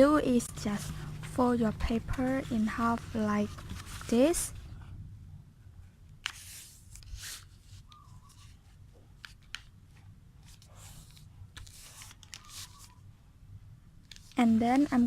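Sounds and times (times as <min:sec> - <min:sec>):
paper being folded and creased: 0:00.3 - 0:04.6, 0:06.2 - 0:13.0, 0:14.0 - 0:15.0.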